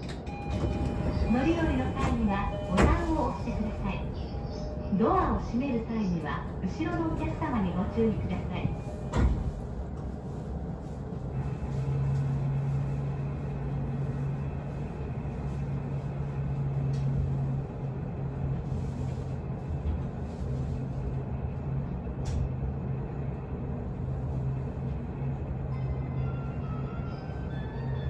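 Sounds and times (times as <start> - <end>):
train equipment low hum: 0.0 - 28.0.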